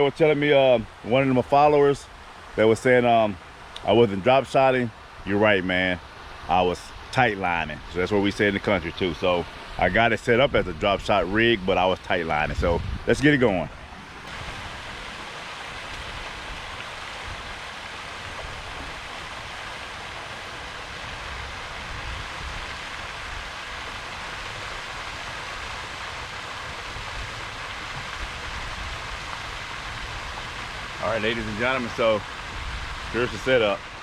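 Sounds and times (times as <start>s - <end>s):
fountain spray splashing on water: 0.0s - 34.0s.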